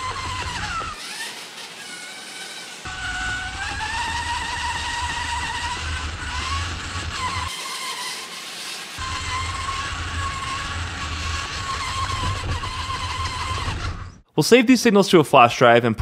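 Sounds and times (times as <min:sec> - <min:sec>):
electric motor whining: 0:00.0 - 0:14.2.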